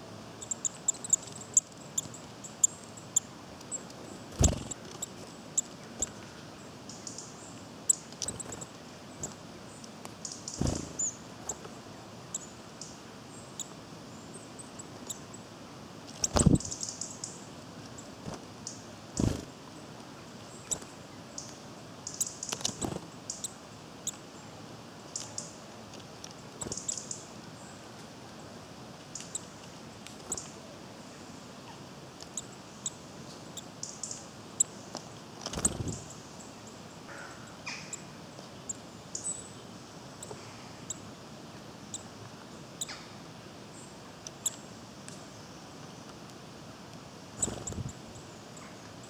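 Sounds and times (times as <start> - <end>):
small birds chirping: 0.4 - 15.5, 16.1 - 46.3, 47.2 - 49.0.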